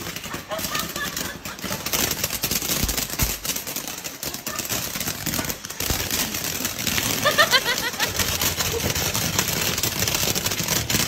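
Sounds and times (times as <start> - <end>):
fireworks crackling and popping: 0.0 - 11.0
heavy firework thumps: 1.4 - 11.0.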